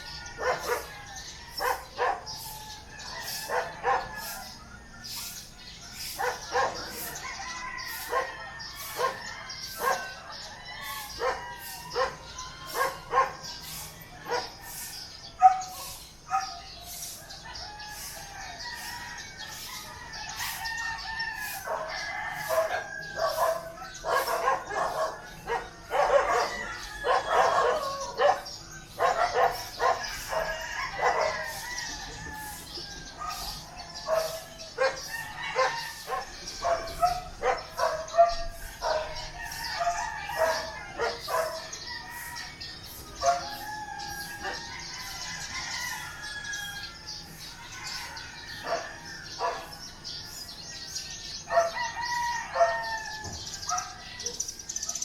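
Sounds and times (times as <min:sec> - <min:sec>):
dogs barking: 0:00.0 - 0:50.4, 0:51.4 - 0:55.0
roosters crowing: 0:00.0 - 0:55.0.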